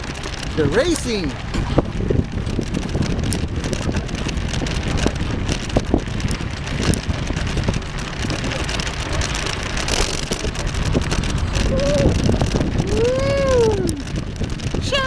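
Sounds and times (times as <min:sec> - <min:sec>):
small clicks and crackles: 0:00.0 - 0:15.0
wind buffeting microphone: 0:00.0 - 0:15.0.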